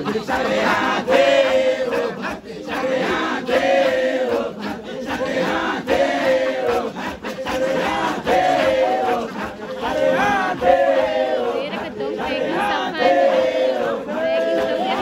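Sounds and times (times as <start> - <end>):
crowd voices: 0.0 - 15.0
men chanting together: 0.0 - 15.0.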